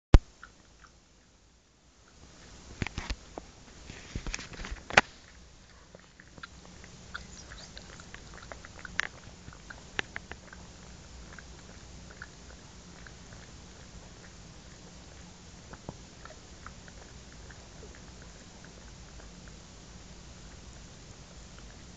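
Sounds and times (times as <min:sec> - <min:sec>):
dog licking and chewing: 0:04.2 - 0:21.9.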